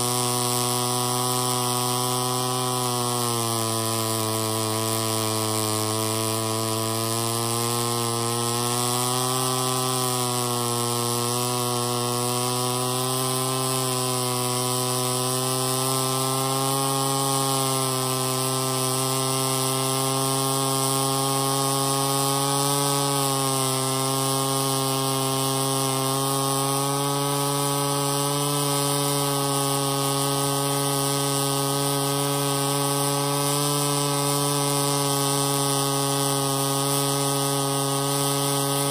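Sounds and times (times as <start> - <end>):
two-stroke saw engine running: 0.0 - 38.9.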